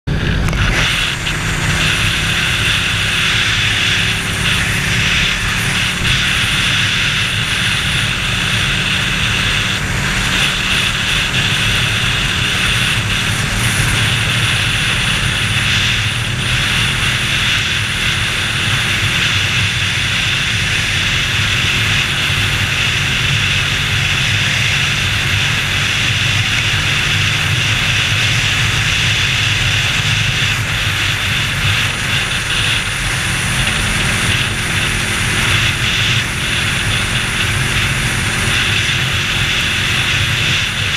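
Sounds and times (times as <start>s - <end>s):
motorcycle engine running: 0.0s - 40.9s
wind rush on microphone: 0.1s - 40.9s.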